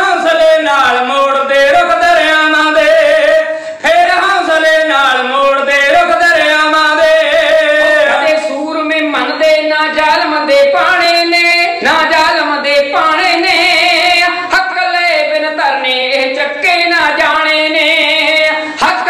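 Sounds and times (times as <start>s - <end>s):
men singing without instruments: 0.0s - 19.0s.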